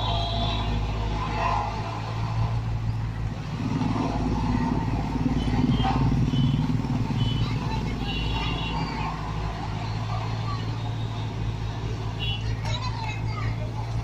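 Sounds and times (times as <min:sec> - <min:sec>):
second engine: 0:00.0 - 0:14.0.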